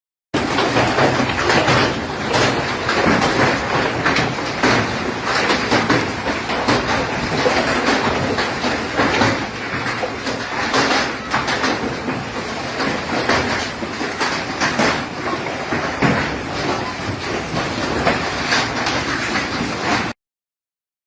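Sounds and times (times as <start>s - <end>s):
hailstones pelting a hard surface: 0.4s - 20.2s.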